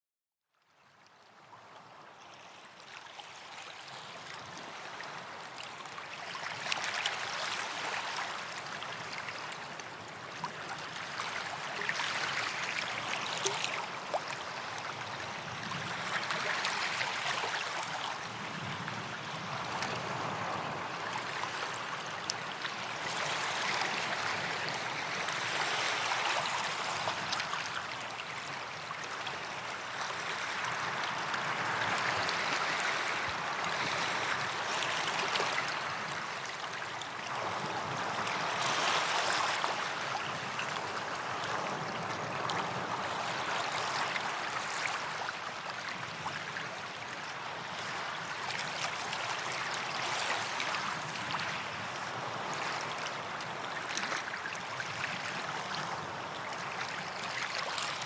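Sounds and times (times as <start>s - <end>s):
small waves washing onto sand: 2.6s - 58.0s.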